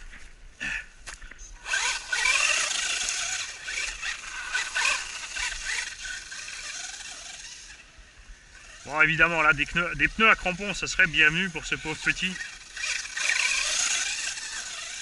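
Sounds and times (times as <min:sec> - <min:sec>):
tyres scrabbling through dry leaves: 0:01.3 - 0:07.8, 0:08.6 - 0:15.0
toy truck electric motor whining: 0:01.6 - 0:15.0.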